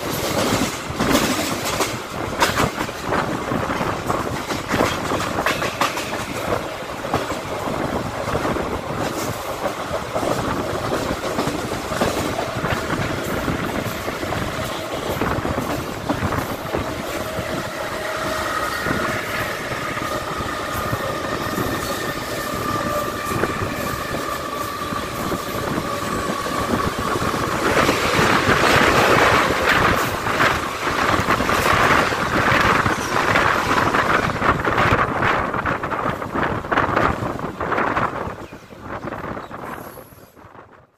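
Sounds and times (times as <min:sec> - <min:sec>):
passing train clatter: 0:00.0 - 0:40.9
train wheel and track noise: 0:00.0 - 0:40.9.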